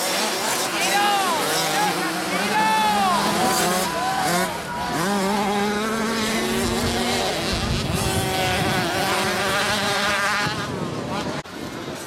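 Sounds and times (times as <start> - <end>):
small two-stroke engines buzzing: 0.0 - 12.0.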